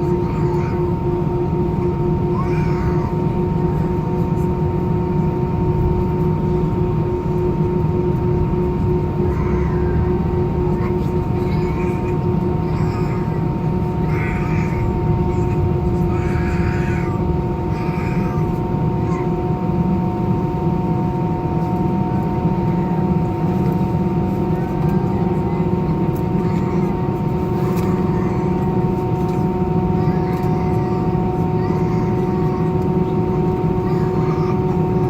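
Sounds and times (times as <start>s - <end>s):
constant whining tones: 0.0s - 35.0s
jet engine cabin rumble: 0.0s - 35.0s.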